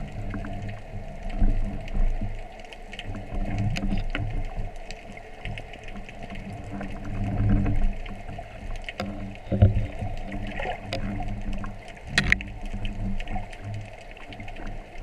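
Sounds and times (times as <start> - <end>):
low droning hum: 0.0 - 15.0
underwater clicks and crackles: 0.0 - 15.0.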